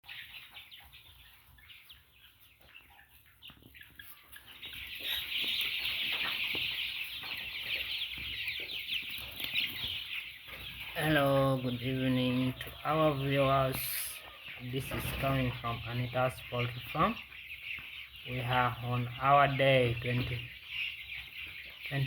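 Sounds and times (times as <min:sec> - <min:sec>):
chicks peeping and cheeping: 0:00.0 - 0:22.0.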